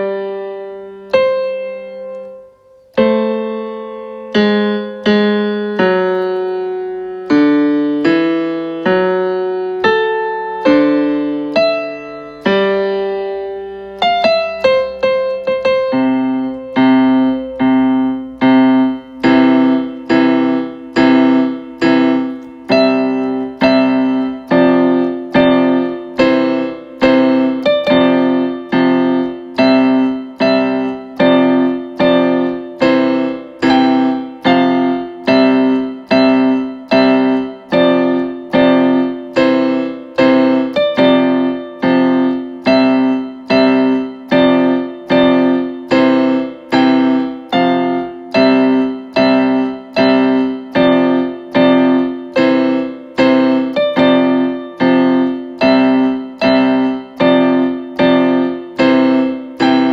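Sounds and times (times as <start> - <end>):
electronic keyboard piano playing: 0.0 - 59.9.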